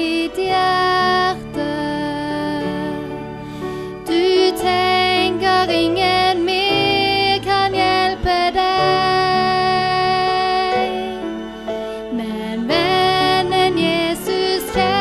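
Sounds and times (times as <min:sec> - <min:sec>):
woman singing: 0:00.0 - 0:03.3, 0:04.0 - 0:11.4, 0:12.0 - 0:15.0
upright piano: 0:00.0 - 0:15.0.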